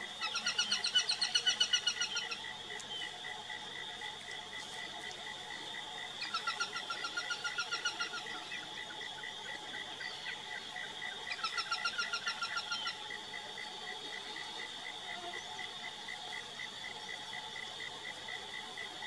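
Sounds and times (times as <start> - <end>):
faint pulsing chirp: 0.0 - 19.0.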